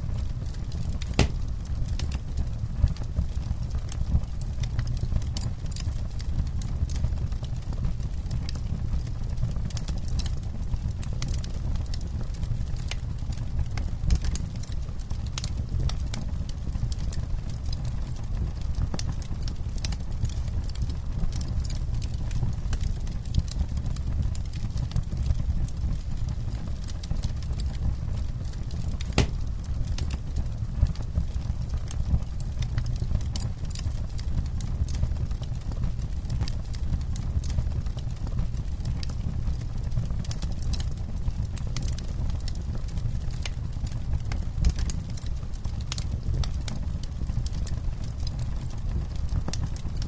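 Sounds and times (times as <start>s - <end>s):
campfire wood crackling and popping: 0.0s - 50.0s
low fire rumble: 0.0s - 50.0s.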